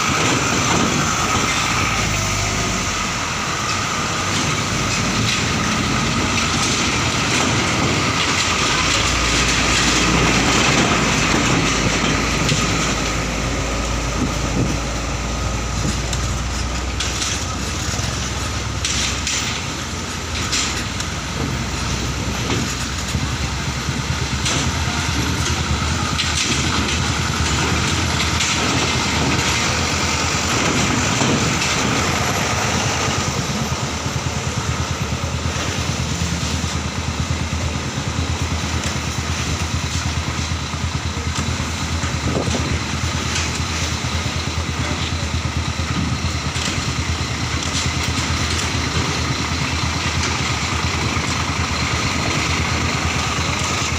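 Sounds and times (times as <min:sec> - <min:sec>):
diesel truck engines rumbling: 0:00.0 - 0:53.9.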